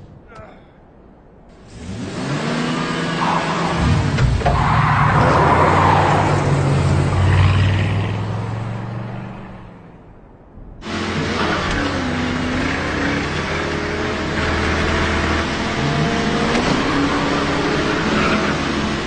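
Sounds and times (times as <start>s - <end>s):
car engine revving: 1.5s - 10.0s, 10.8s - 19.0s.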